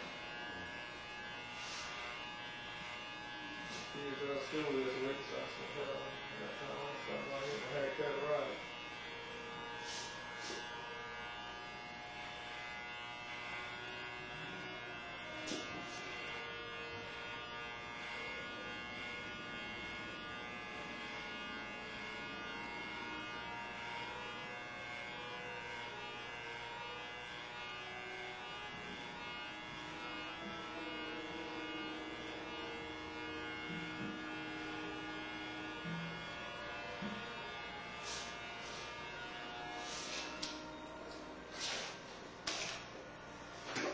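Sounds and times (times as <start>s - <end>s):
electric hair clippers buzzing: 0.0s - 43.9s.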